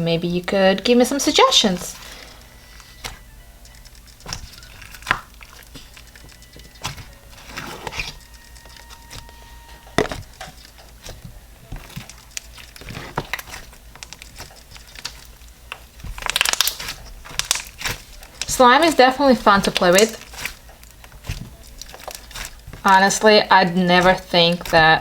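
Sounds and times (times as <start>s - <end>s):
slime foam beads crackling: 0.2s - 25.0s.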